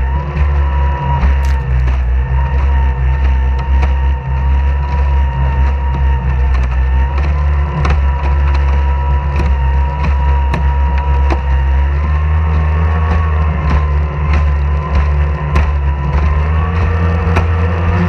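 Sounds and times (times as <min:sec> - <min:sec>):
outboard engine running: 0:00.0 - 0:18.0.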